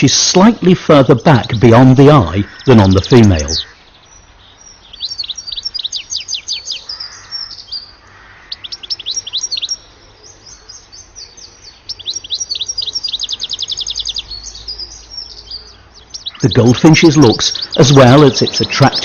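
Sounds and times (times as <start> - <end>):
bird twittering: 0.0 - 19.0.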